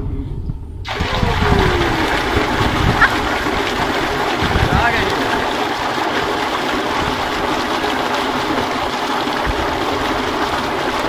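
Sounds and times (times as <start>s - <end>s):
electric motor pump: 0.9s - 11.0s
water gushing from pipe: 0.9s - 11.0s.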